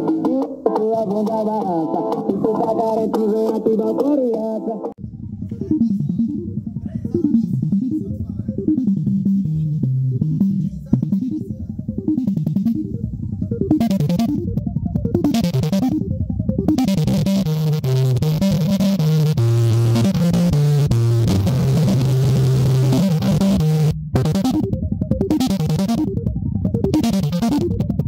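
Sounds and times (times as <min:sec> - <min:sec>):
loud music through car speakers: 0:00.0 - 0:04.9, 0:09.2 - 0:28.0
deep bass sweeps: 0:05.0 - 0:28.0.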